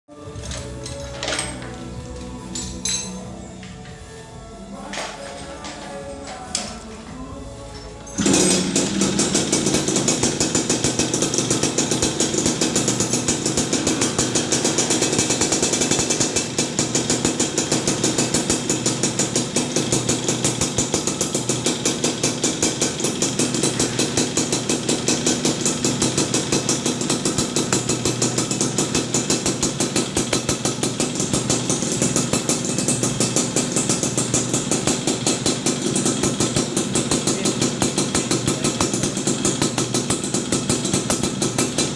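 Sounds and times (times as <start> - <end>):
two-stroke engine idling: 8.0 - 41.9.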